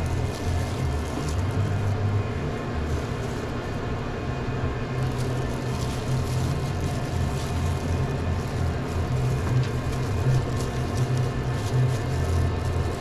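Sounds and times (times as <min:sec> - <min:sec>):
deli paper rustling: 0:00.0 - 0:13.0
low hum of equipment: 0:00.0 - 0:13.0.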